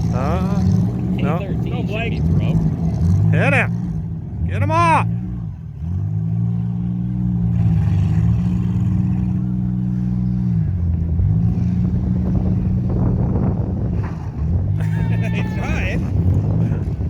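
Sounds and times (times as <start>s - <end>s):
car engines revving loudly: 0.0s - 17.0s.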